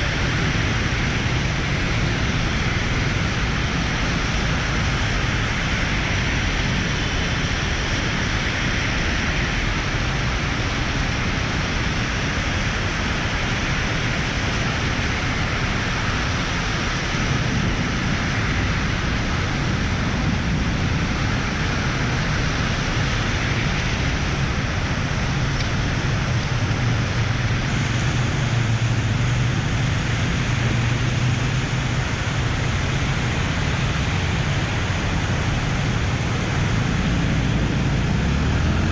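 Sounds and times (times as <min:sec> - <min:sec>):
motorcycle engine drone: 0:00.0 - 0:38.9
road noise: 0:00.0 - 0:38.9.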